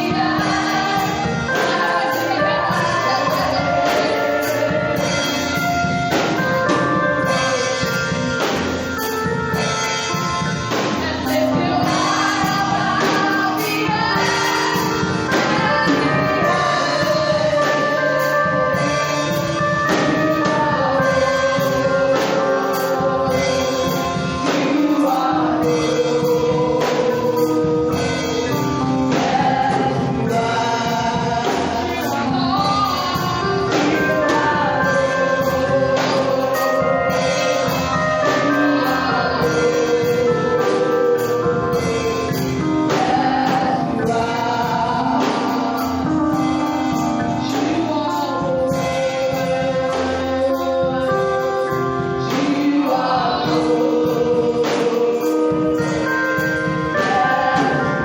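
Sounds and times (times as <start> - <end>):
band accompaniment: 0.0 - 58.0
choir singing gospel: 0.0 - 58.0
steady percussive beat: 0.0 - 58.0.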